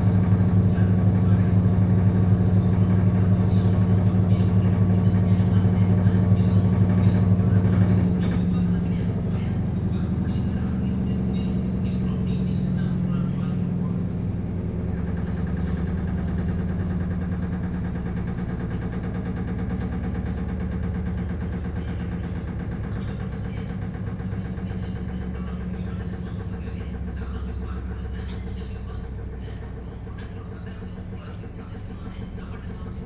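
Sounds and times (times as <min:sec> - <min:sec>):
washing machine running: 0:00.0 - 0:33.0.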